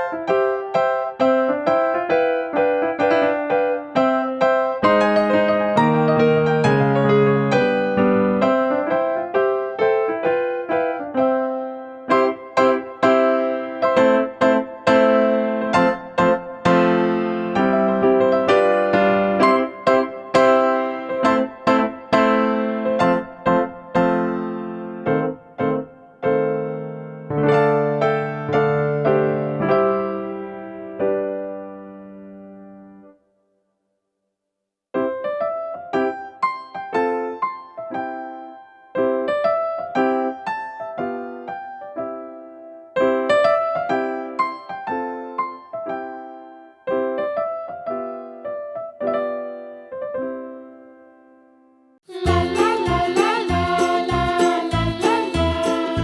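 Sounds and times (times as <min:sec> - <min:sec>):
electric piano music: 0:00.0 - 0:33.2, 0:35.0 - 0:56.0.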